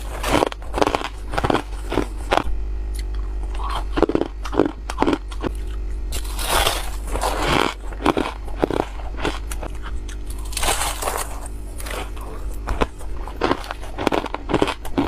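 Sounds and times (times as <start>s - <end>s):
ice being bitten and chewed: 0.0s - 15.0s.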